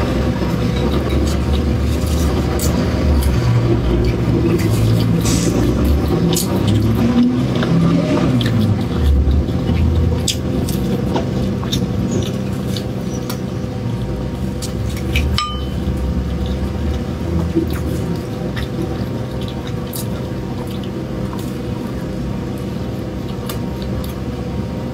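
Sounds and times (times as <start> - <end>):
chewing crunchy pastry: 0.0 - 24.9
steady low hum: 0.0 - 24.9.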